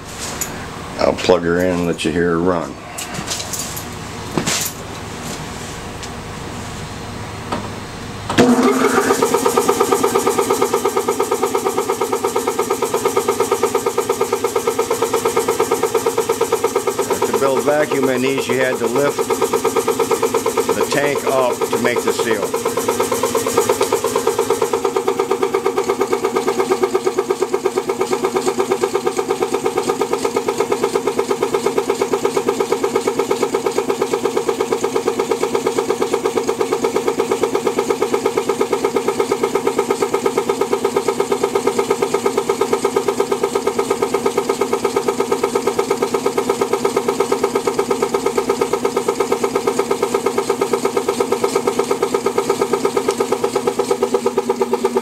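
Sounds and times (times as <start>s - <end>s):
vacuum pump pulsing: 0.0s - 55.0s.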